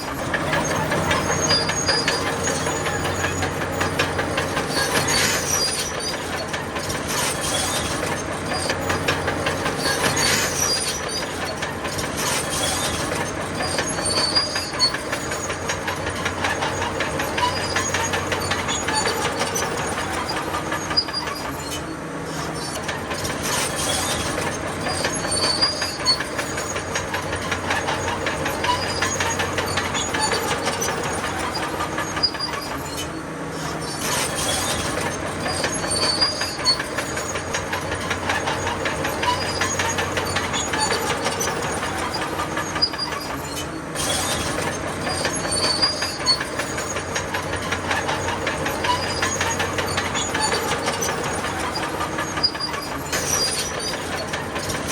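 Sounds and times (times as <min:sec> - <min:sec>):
diesel engine running: 0:00.0 - 0:54.9
steel tracks clattering: 0:00.0 - 0:54.9.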